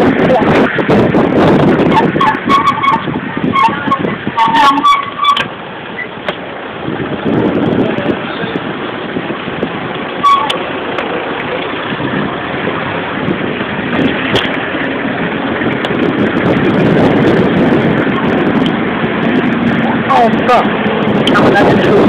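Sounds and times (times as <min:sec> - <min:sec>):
street traffic: 0:00.0 - 0:22.0
wind rushing: 0:00.0 - 0:22.0.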